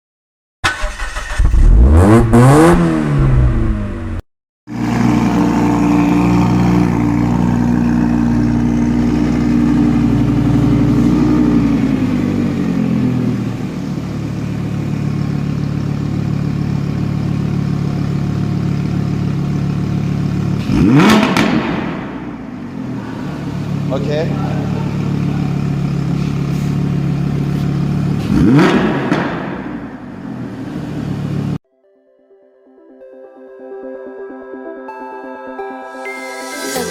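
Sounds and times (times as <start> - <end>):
car engine revving and idling: 0.6 - 31.6.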